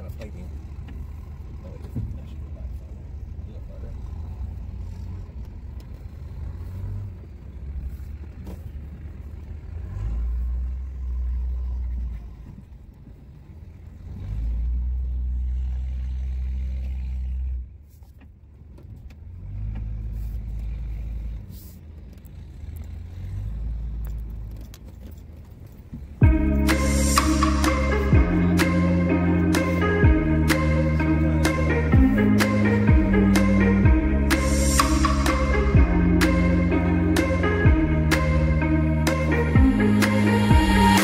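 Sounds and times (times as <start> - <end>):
truck engine rumble: 0.0 - 41.0.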